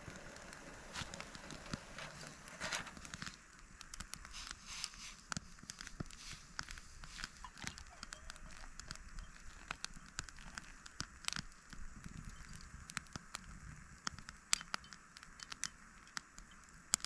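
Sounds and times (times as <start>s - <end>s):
campfire crackling: 0.0s - 17.0s
fire pops and snaps: 0.0s - 17.0s
low hiss: 0.0s - 17.0s.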